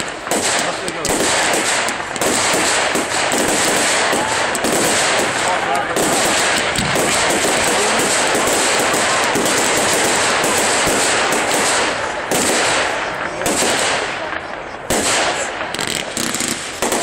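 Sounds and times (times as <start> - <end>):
sharp firework bang: 0.0 - 14.1
fireworks crackling bangs: 0.0 - 17.0.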